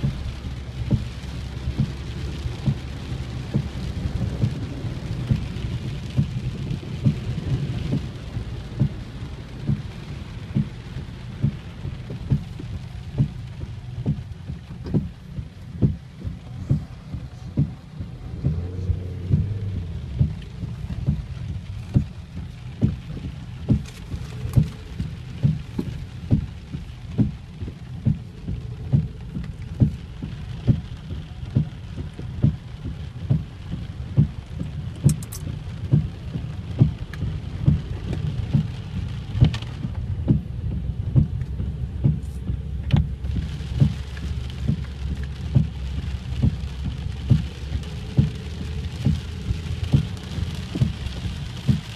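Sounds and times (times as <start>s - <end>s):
low thumping: 0.0s - 34.8s, 35.8s - 51.9s
heavy rain pouring: 0.0s - 51.9s.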